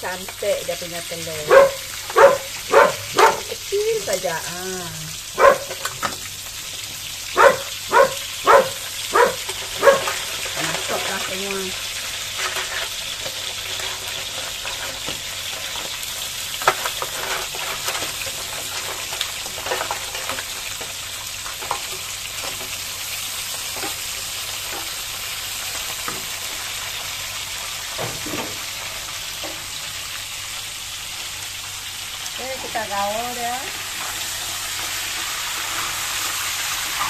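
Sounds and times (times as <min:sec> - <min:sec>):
crabs sizzling in hot oil: 0:00.0 - 0:37.0.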